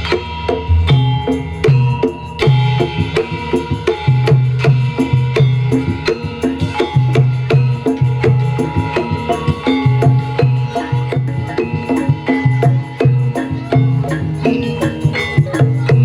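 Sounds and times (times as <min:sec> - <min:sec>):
held metallophone notes: 0:00.0 - 0:16.0.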